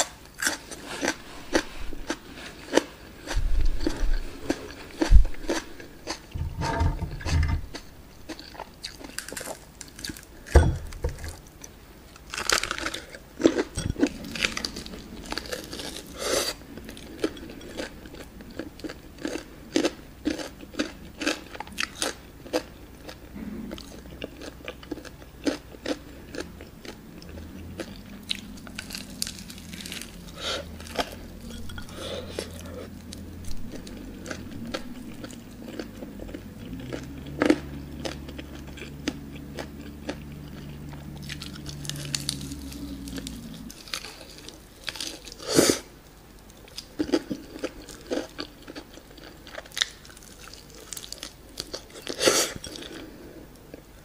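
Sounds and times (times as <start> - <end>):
crunchy chewing: 0.0 - 7.0, 7.6 - 54.0
low steady hum: 0.0 - 54.0.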